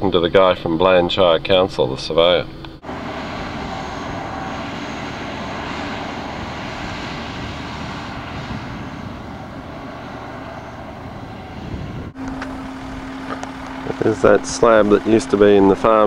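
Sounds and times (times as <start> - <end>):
engine rumble: 0.0 - 16.0
hiss of tyres and wind: 2.8 - 16.0.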